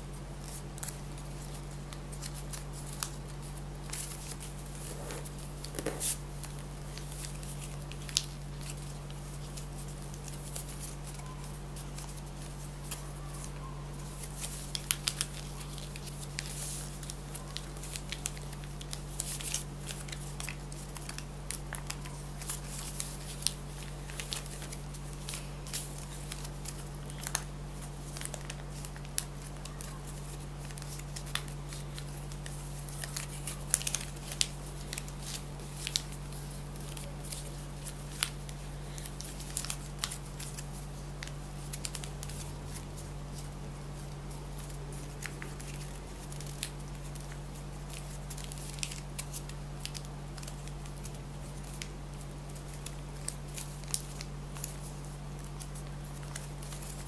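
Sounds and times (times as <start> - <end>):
steady low hum: 0.0 - 57.0
paper crinkling and rustling: 0.1 - 57.0.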